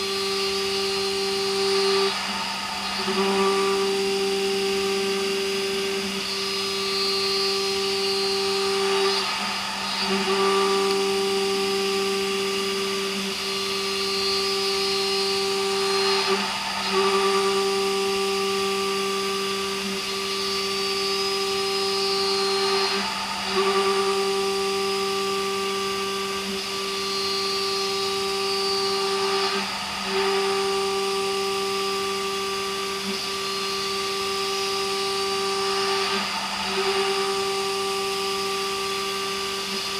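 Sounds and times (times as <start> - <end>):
milling machine cutting steel: 0.0 - 39.9.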